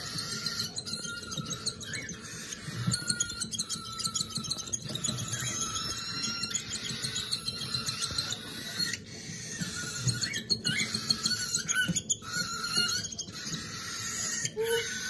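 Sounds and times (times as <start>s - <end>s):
chicks squeaky begging calls: 0.0s - 15.0s.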